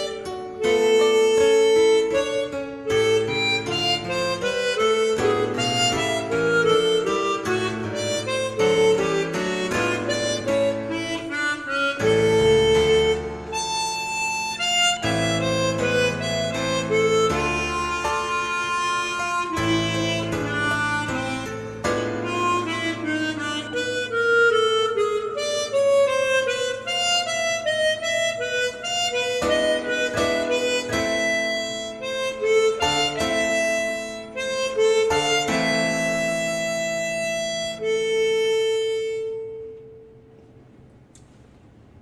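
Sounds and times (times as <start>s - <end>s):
harmonica melody: 0.0s - 40.3s
accompanying chords: 0.0s - 40.5s.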